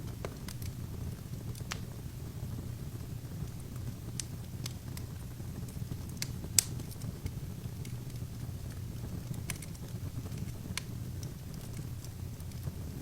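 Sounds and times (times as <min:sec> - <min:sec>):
fire rumbling: 0:00.0 - 0:13.0
logs crackling and popping: 0:00.0 - 0:13.0.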